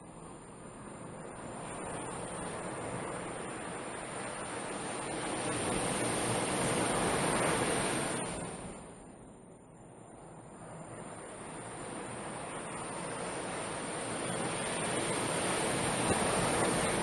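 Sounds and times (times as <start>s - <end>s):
ocean waves breaking: 0.7s - 9.0s, 10.5s - 17.0s.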